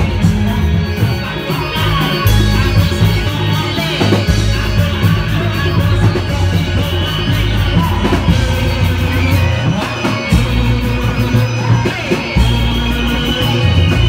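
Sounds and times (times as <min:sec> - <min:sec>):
deep bass line: 0:00.0 - 0:14.0
loud street performance music: 0:00.0 - 0:14.0.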